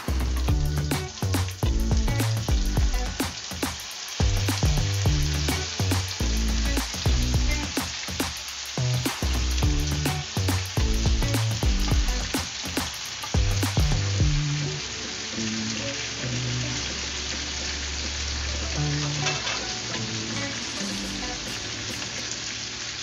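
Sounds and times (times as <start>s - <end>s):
background music: 0.0s - 23.0s
meat sizzling in frying pan: 0.0s - 23.0s.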